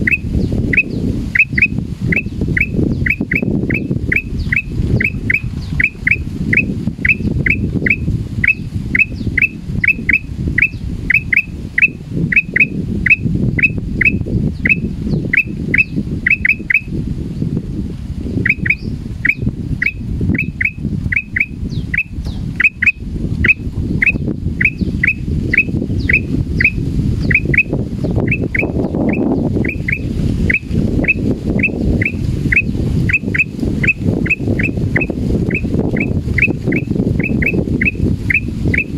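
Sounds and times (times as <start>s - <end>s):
bird whistling alarm calls: 0.0s - 16.9s, 18.4s - 38.9s.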